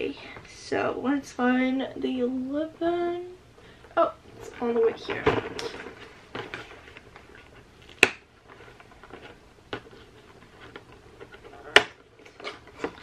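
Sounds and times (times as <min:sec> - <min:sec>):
faint rustling: 0:02.6 - 0:13.0.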